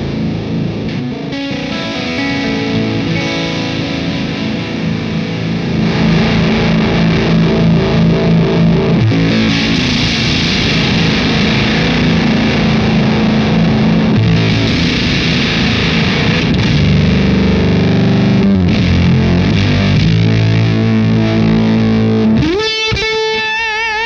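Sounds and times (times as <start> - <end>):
electric guitar with fuzz: 0.0 - 24.0.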